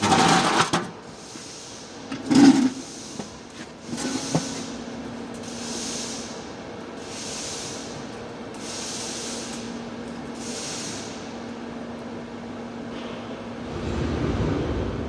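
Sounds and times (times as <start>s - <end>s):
welding arc hum and hiss: 0.0s - 15.0s.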